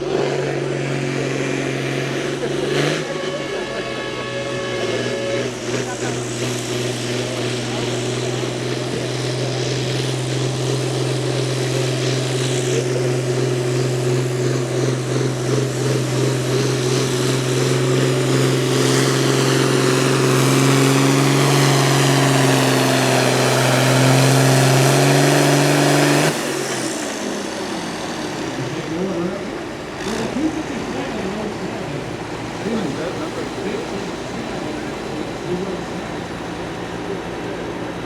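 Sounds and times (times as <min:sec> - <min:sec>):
engine running at high revs: 0:00.0 - 0:38.0.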